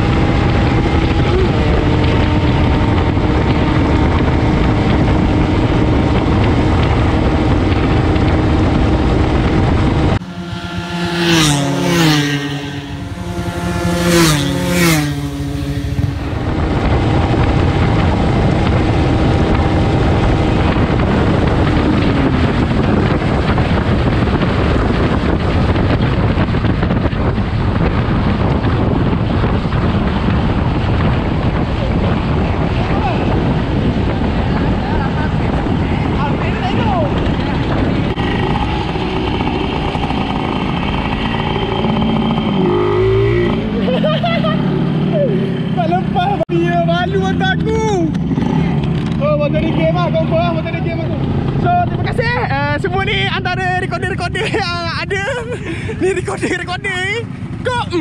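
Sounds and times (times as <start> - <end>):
motorcycle engine at high speed: 0.0 - 58.0
motorcycles speeding past: 0.0 - 58.0
wind buffeting microphone: 0.0 - 58.0.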